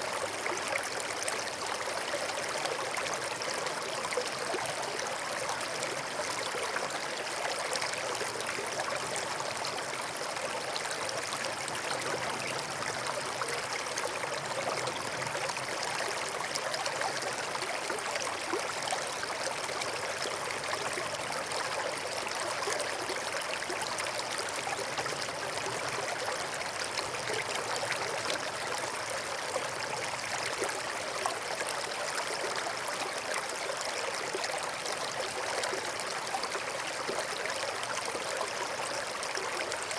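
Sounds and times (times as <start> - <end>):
stream burbling over rocks: 0.0 - 39.9.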